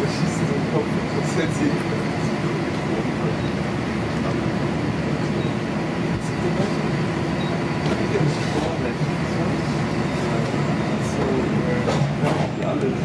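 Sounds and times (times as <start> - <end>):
train rumbling and rattling: 0.0 - 13.0.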